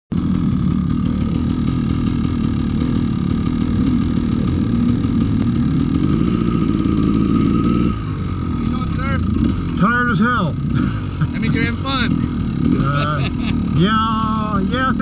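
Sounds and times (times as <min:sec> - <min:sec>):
dirt bike engine idling: 0:00.1 - 0:15.0.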